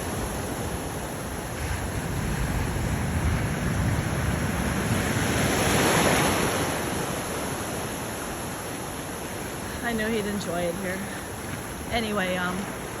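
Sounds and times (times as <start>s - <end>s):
ocean surf washing onto beach: 0.0s - 13.0s
wind rumble on microphone: 0.0s - 13.0s.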